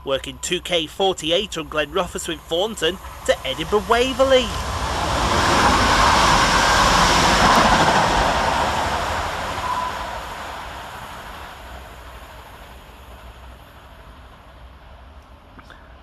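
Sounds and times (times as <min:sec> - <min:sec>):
train passing at speed: 0:00.7 - 0:15.5.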